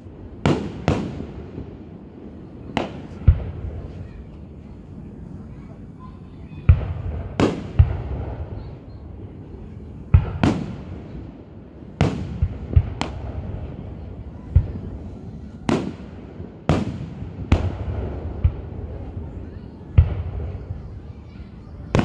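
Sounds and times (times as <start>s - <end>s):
fireworks booming and cracking: 0.0s - 22.0s.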